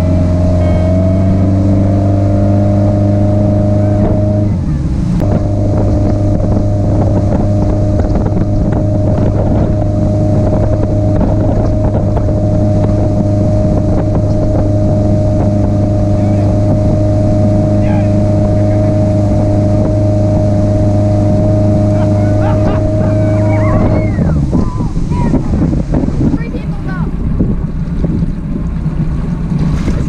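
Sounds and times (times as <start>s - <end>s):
motorboat engine drone: 0.0s - 30.0s
wind noise on microphone: 0.0s - 30.0s
churning wake hiss: 1.2s - 30.0s.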